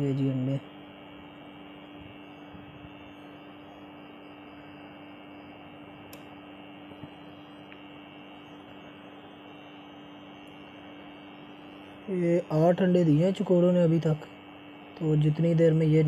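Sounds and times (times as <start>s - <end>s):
incubator electrical hum: 0.0s - 16.0s.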